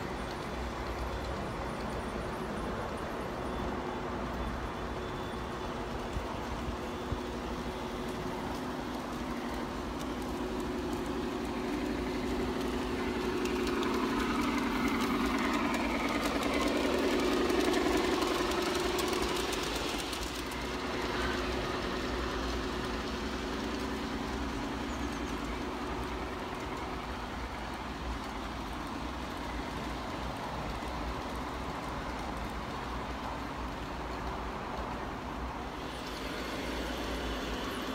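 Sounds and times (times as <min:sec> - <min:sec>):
model train motor hum: 0:00.0 - 0:37.9
wheels clicking over rails: 0:00.0 - 0:37.9.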